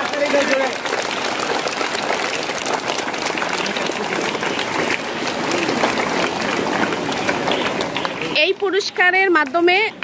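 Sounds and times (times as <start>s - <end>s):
crowd of children applauding: 0.0s - 9.2s.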